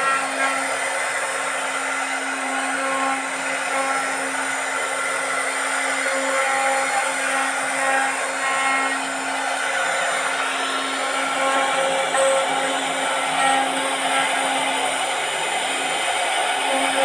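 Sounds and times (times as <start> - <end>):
hiss of cutting: 0.0 - 17.0
wood router motor whine: 0.0 - 17.0.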